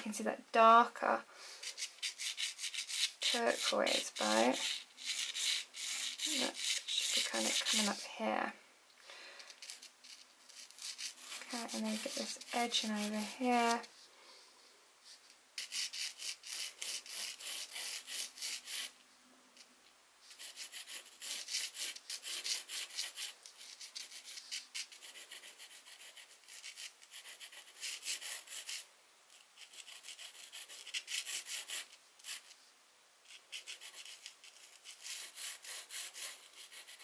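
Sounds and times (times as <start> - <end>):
pencil scratching on paper: 1.6 - 8.2, 9.6 - 13.9, 15.1 - 18.9, 20.3 - 32.6, 33.3 - 37.0.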